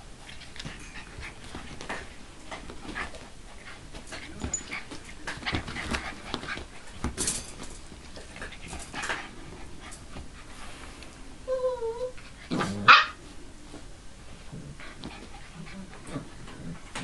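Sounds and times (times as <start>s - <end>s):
puppies scuffling: 0.2s - 10.9s, 13.6s - 17.0s.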